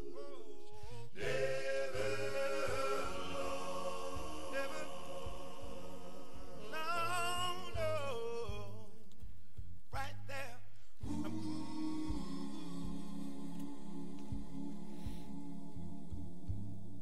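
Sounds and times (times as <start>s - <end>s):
voices singing a hymn: 0.0s - 8.7s, 11.0s - 17.0s.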